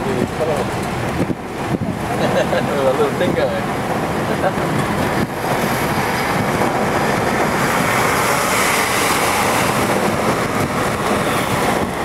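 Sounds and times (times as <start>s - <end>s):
wind on microphone: 0.0s - 2.4s, 3.2s - 12.0s
bus road noise: 0.0s - 12.0s.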